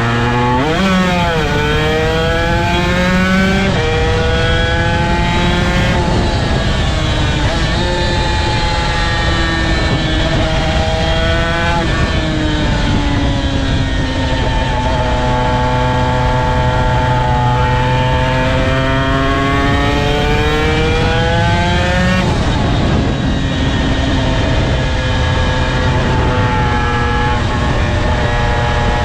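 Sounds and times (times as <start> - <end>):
two-stroke motorcycle engine accelerating: 0.0 - 29.0
wind rushing over microphone: 0.0 - 29.0.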